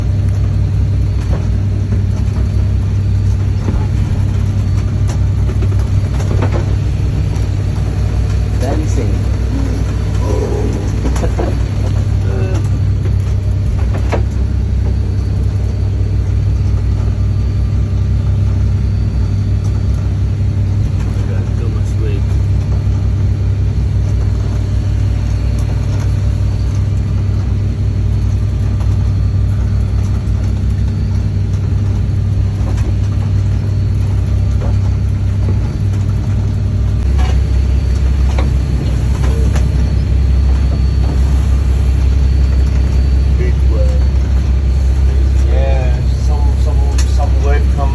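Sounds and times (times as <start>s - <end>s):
boat engine rumbling: 0.0s - 47.9s.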